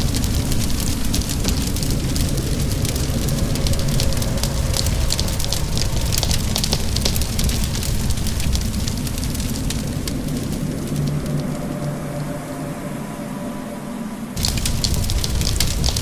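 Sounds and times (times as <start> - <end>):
wood fire crackling: 0.0 - 12.5, 14.4 - 16.0
rain: 0.0 - 16.0.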